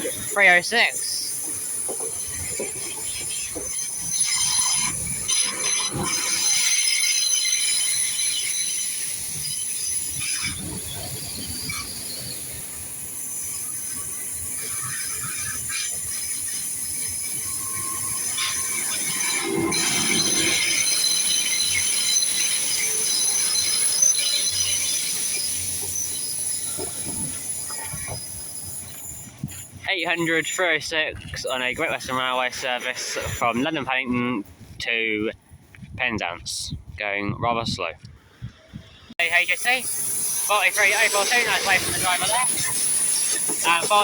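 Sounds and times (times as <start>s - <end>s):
train wheels squealing: 0.0s - 30.8s, 39.2s - 44.0s
train rumbling: 0.0s - 35.7s, 38.6s - 44.0s.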